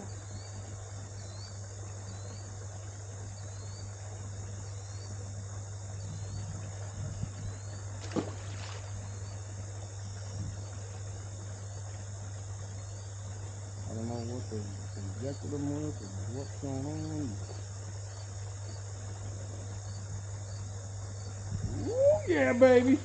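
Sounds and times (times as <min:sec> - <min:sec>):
insects chirping: 0:00.0 - 0:23.0
steady high buzz: 0:00.0 - 0:23.0
steady low hum: 0:00.0 - 0:23.0.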